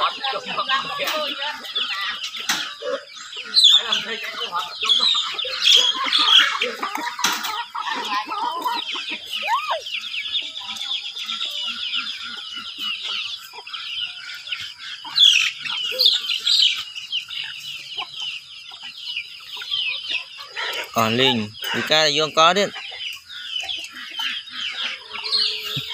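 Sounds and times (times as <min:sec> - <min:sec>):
chicks cheeping: 0:00.0 - 0:25.9
hens clucking: 0:00.0 - 0:25.9.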